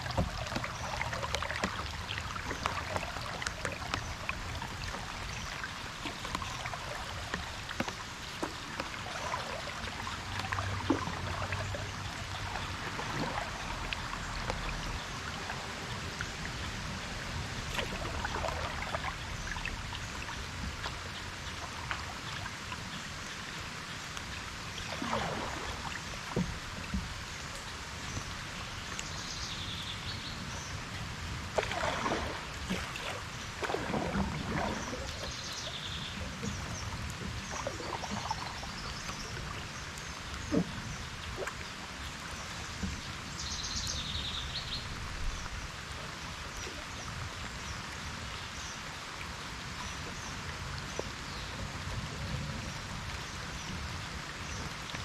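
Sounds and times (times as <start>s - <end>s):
kayak paddle splashing in water: 0.0s - 45.8s.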